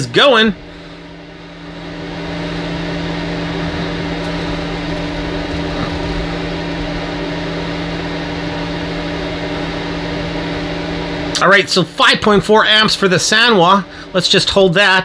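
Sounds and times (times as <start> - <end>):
electric space heater humming: 0.0 - 15.0.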